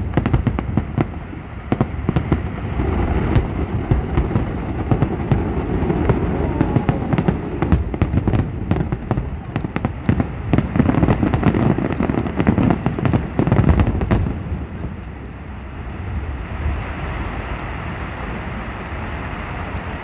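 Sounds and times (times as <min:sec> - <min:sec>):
firework shells bursting: 0:00.0 - 0:17.8
firework crackling: 0:00.0 - 0:20.0
steady background noise: 0:00.0 - 0:20.0.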